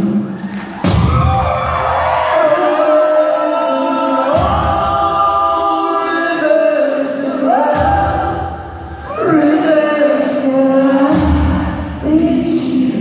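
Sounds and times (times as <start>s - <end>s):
voices singing in harmony: 1.8s - 13.0s.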